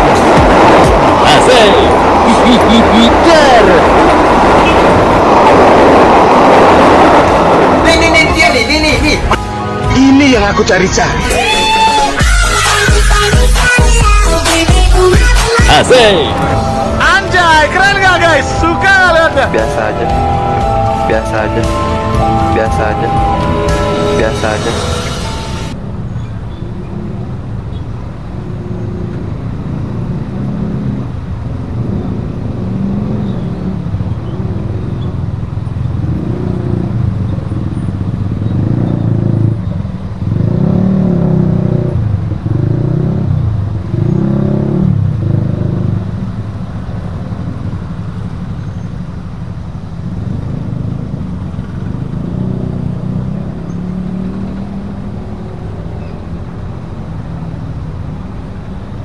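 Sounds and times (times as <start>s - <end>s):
motorcycles and cars revving: 0.0s - 59.0s.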